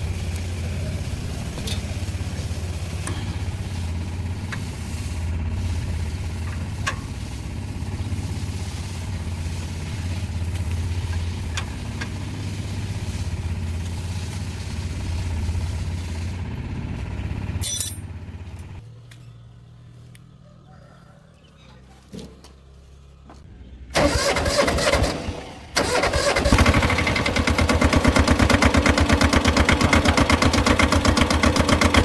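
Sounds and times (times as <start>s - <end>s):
tractor engine running: 0.0s - 20.6s, 21.5s - 32.0s.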